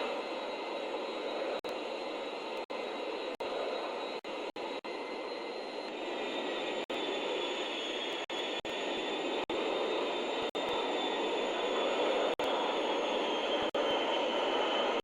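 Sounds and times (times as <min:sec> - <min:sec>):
aircraft engine rushing: 0:00.0 - 0:15.0
faint high whine: 0:00.0 - 0:15.0.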